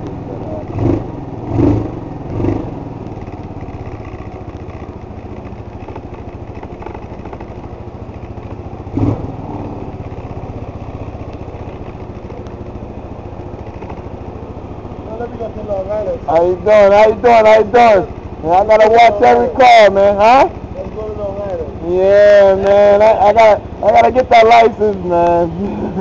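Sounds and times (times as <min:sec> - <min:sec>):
scooter engine running: 0:00.0 - 0:26.0.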